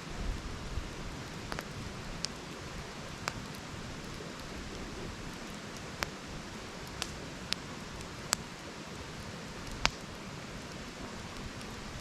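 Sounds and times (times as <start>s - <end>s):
campfire crackling: 0.0s - 12.0s
burning wood pops: 1.4s - 12.0s.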